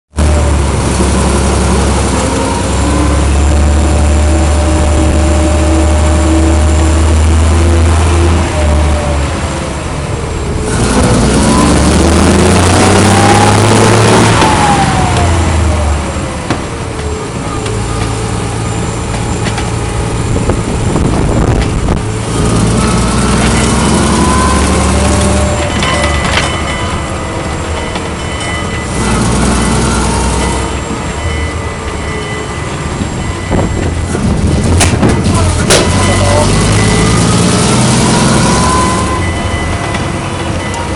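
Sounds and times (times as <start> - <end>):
fire engine petrol engine running: 0.1 - 40.9.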